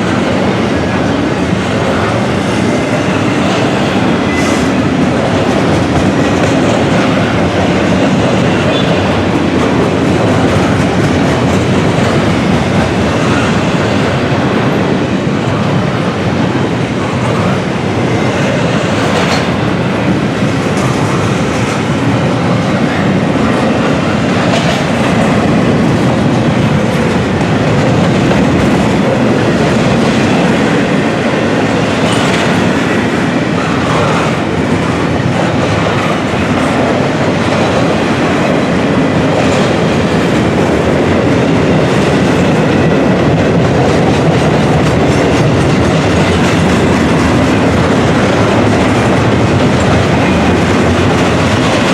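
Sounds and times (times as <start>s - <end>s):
clickety-clack over rail joints: 0.0s - 51.9s
train wheels rumbling on rails: 0.0s - 51.9s.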